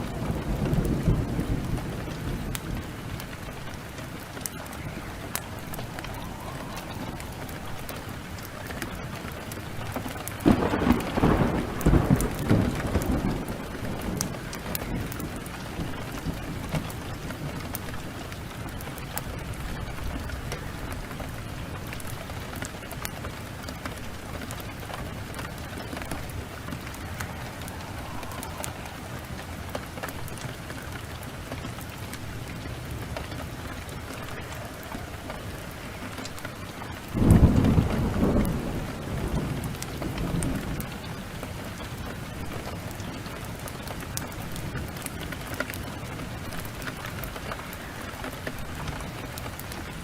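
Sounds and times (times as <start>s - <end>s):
heavy rain: 0.0s - 50.0s
sharp crackles: 0.0s - 50.0s
thunder clap and rumble: 0.0s - 50.0s.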